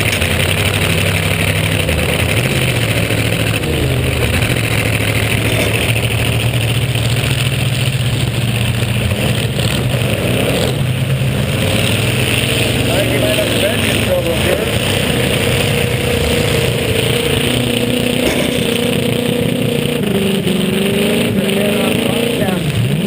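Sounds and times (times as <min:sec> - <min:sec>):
car engine running loud: 0:00.0 - 0:23.0
constant rushing noise: 0:00.0 - 0:23.0.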